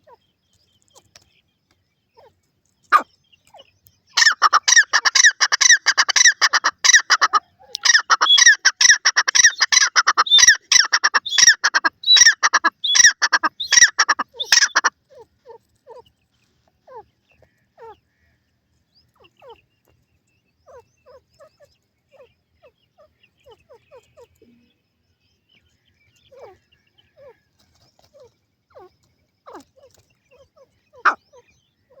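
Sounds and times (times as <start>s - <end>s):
faint bird chirps: 0.0s - 32.0s
francolin calling: 2.1s - 16.2s, 16.8s - 18.4s, 19.0s - 32.0s.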